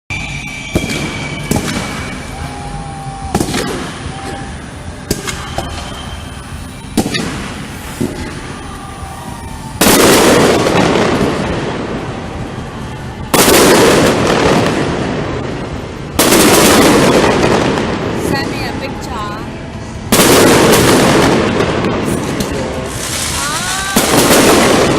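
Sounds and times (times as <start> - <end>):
fireworks booms with rolling echo: 0.1 - 24.9
fireworks sharp bangs: 0.1 - 24.9.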